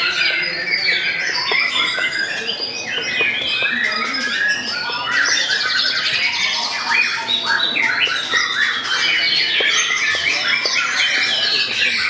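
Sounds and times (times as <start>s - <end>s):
birds singing whistled phrases: 0.0s - 12.0s.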